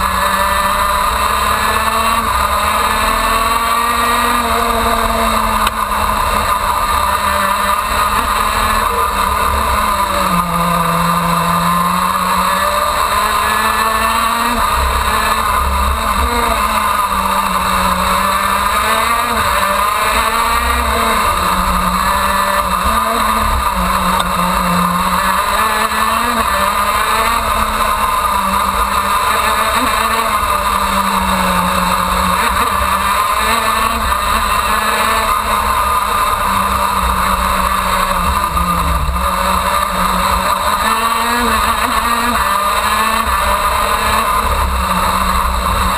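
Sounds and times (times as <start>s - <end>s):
two-stroke kart engine revving: 0.0s - 45.9s.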